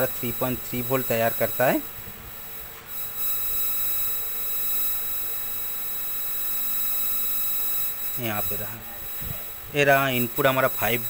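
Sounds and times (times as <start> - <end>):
electronic whine and hum from tv: 0.0 - 11.0.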